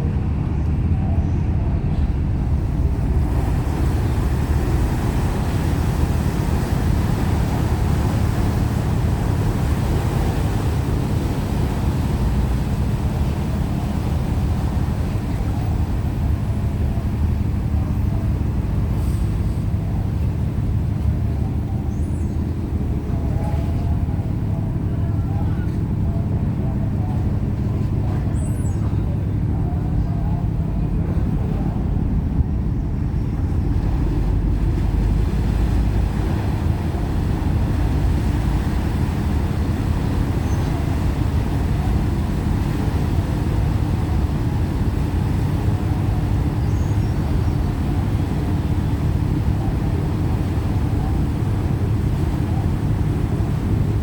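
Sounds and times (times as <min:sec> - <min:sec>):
ship diesel engines droning: 0:00.0 - 0:54.0.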